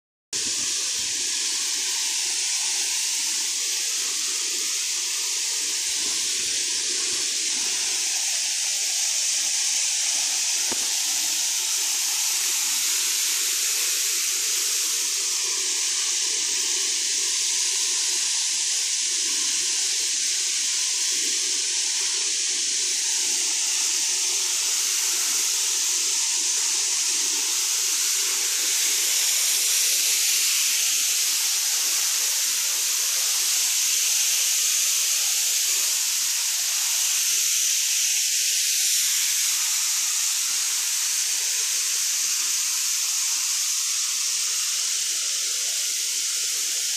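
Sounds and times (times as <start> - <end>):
waterfall rushing: 0.4 - 19.2, 21.7 - 46.9.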